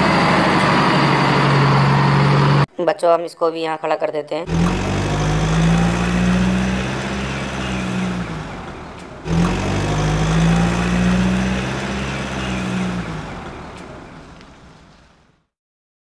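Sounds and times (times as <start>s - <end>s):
truck engine running: 0.0s - 2.7s, 4.5s - 15.4s.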